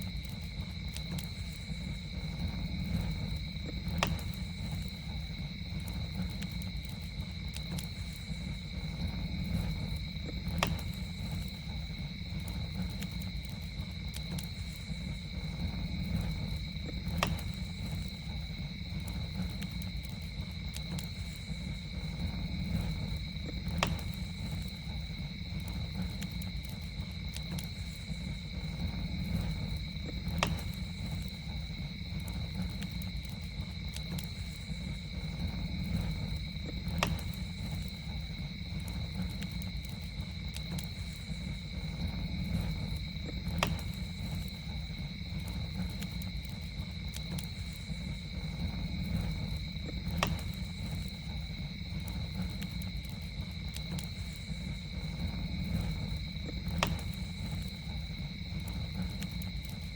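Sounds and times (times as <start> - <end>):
campfire popping: 0.0 - 59.9
campfire rumbling: 0.0 - 59.9
night insects droning: 0.0 - 59.9.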